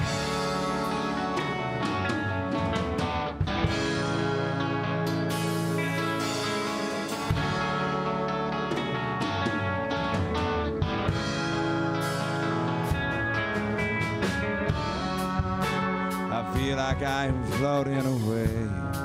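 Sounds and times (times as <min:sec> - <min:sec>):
bass guitar: 0:00.0 - 0:19.0
drum kit: 0:00.0 - 0:19.0
electric guitars: 0:00.0 - 0:19.0.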